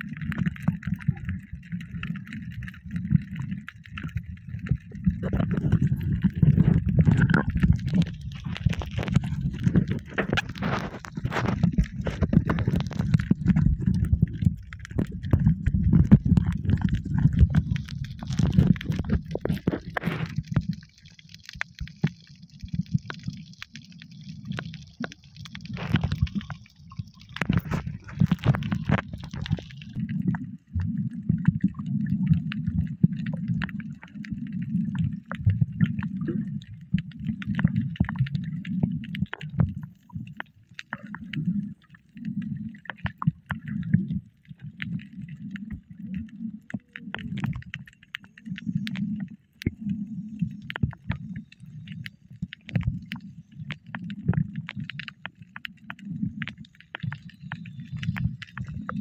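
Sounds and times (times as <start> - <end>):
muffled underwater churning rumble: 0.0 - 59.0
sharp clicks underwater: 0.0 - 59.0.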